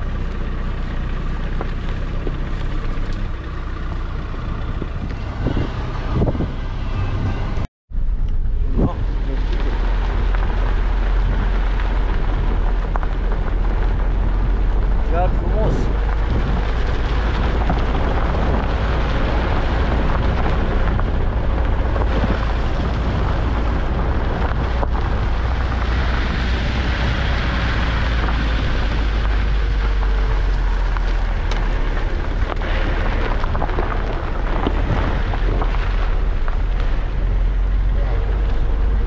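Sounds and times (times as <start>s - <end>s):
tyres on gravel: 0.0s - 39.0s
wind and road noise: 0.0s - 39.0s.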